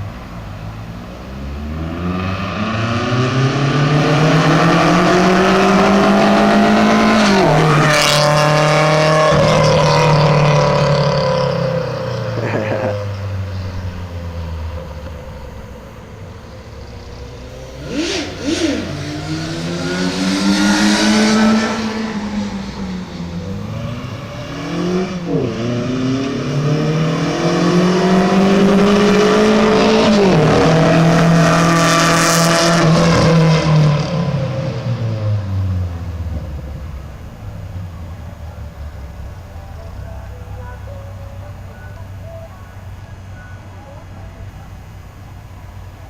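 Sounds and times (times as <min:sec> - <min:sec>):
car engine revving: 0:00.0 - 0:46.0.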